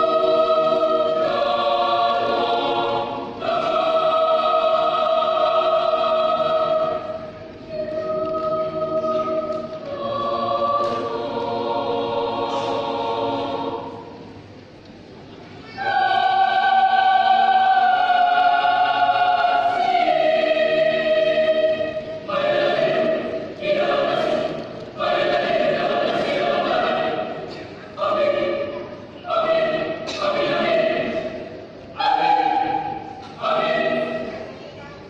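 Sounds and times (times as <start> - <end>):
mixed choir singing: 0.0 - 14.4, 15.8 - 34.6.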